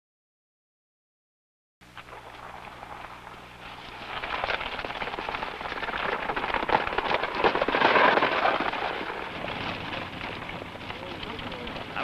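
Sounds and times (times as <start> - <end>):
sleigh crunching over snow: 2.0 - 12.0.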